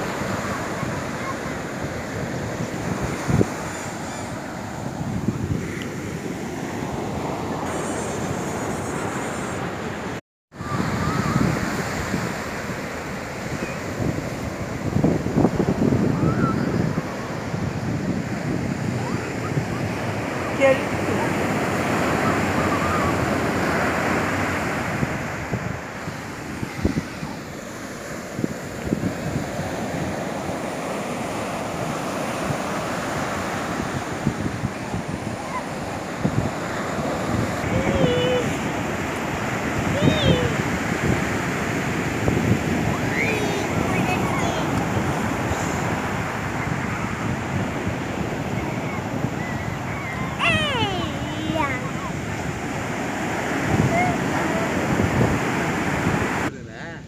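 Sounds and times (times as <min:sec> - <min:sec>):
wind buffeting microphone: 0:00.0 - 0:56.6
ocean surf breaking on beach: 0:00.0 - 0:57.0.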